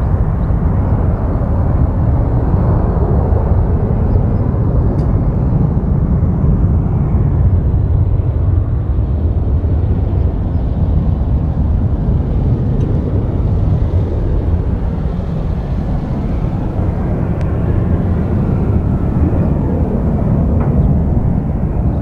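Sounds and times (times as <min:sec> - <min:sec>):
distant jet engine rumble: 0:00.0 - 0:22.0.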